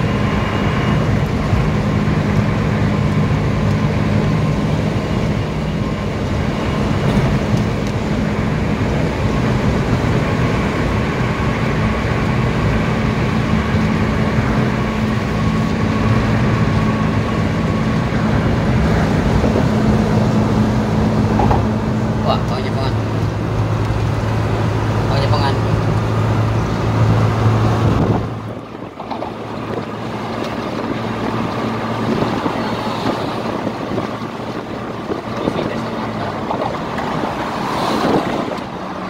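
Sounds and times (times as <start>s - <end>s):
low cabin drone: 0.0s - 39.0s
tyres on concrete road: 0.0s - 39.0s.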